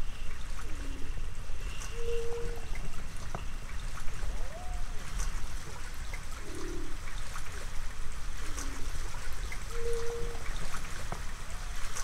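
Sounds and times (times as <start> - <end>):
trickling water-like noise: 0.0 - 12.0.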